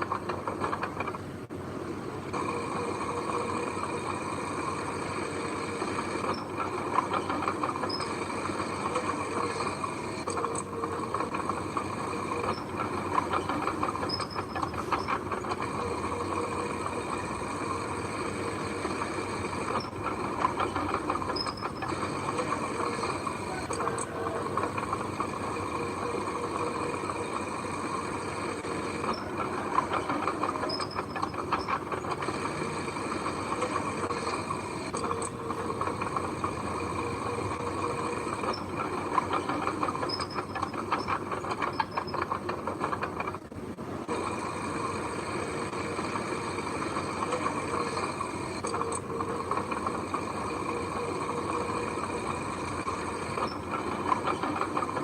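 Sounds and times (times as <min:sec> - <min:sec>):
heavy machinery running: 0:00.0 - 0:55.0.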